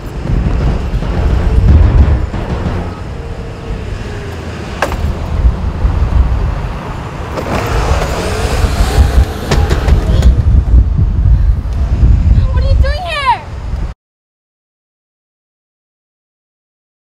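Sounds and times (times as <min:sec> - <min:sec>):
road traffic rumble: 0:00.0 - 0:13.9.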